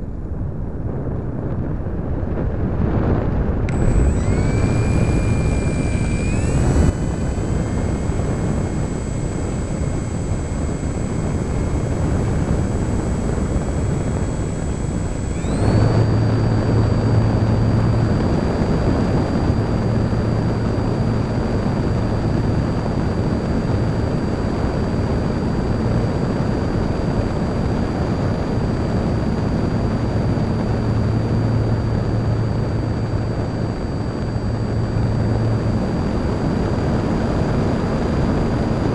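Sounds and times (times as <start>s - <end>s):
electric motor whine: 3.6s - 38.9s.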